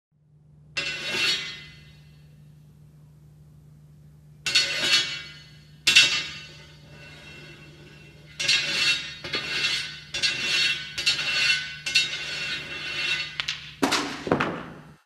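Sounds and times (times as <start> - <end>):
faint steady hum: 0.2 - 15.0.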